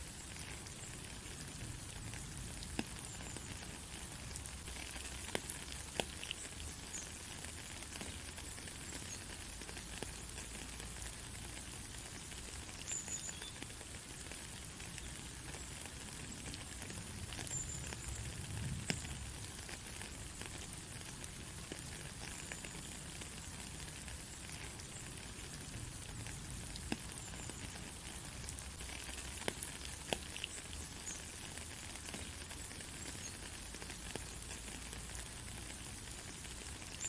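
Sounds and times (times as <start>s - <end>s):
rain hissing: 0.0s - 37.0s.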